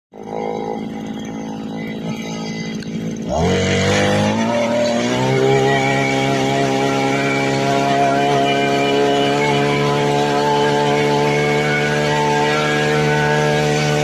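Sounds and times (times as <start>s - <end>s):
small engine idling and revving: 0.1s - 14.0s.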